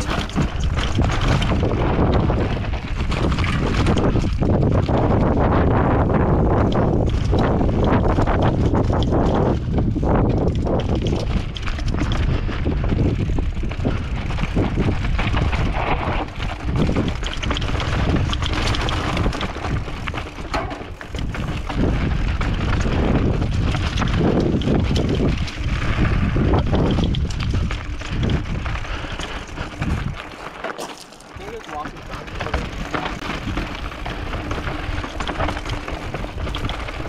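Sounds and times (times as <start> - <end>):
wind buffeting microphone: 0.0 - 30.5, 31.4 - 37.0
bike rattling over rocks: 0.0 - 37.0
tyres rolling over gravel: 0.0 - 37.0.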